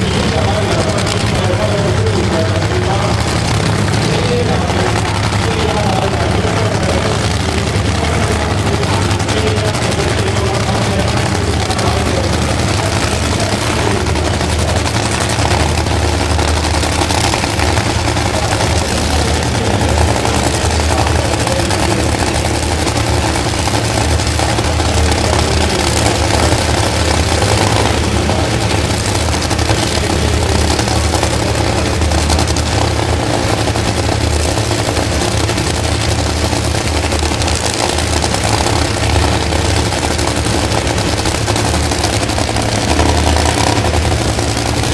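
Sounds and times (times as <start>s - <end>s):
dragster engines idling loudly: 0.0s - 44.9s.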